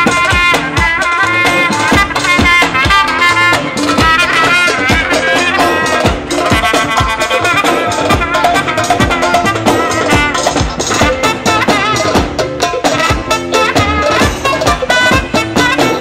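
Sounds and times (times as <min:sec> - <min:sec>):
darbuka and drums beat: 0:00.0 - 0:16.0
trumpet playing dance tune: 0:00.0 - 0:16.0.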